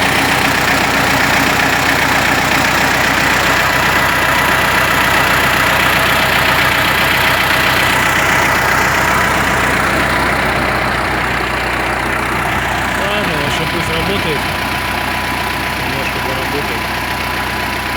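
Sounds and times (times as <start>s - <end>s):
tractor diesel engine idling: 0.0s - 17.9s.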